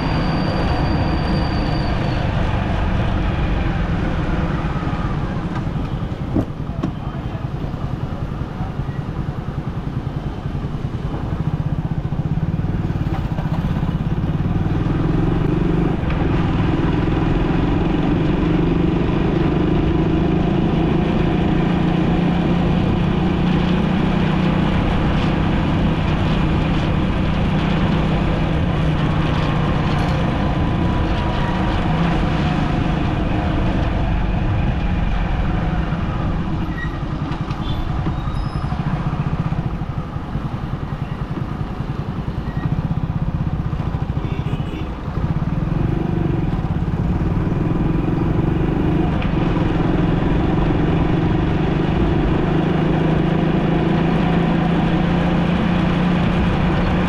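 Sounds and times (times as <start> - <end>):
engine and tyre drone: 0.0 - 57.0
motorcycles passing: 0.0 - 57.0.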